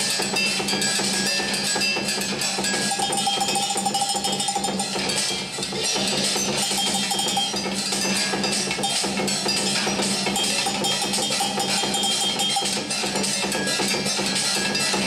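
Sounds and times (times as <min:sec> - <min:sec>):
fast metallic percussion: 0:00.0 - 0:15.0.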